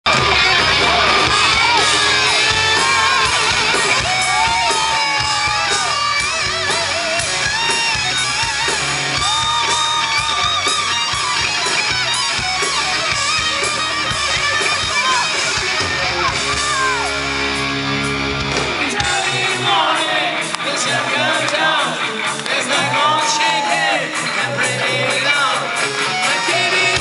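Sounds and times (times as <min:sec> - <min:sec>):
distorted electric guitars: 0:00.0 - 0:27.0
crowd shouting: 0:00.1 - 0:27.0
steady drum beat: 0:00.1 - 0:27.0.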